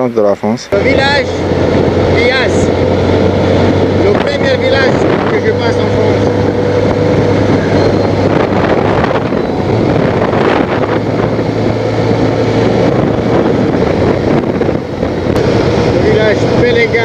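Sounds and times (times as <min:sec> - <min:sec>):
wind rushing over microphone: 0:00.6 - 0:17.0
motorcycle engine running: 0:00.7 - 0:17.0.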